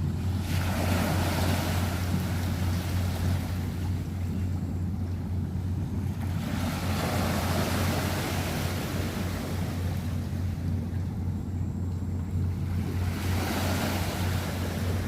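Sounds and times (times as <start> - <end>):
waves washing against bank: 0.0 - 11.4, 12.0 - 15.0
steady low rumble: 0.0 - 15.0.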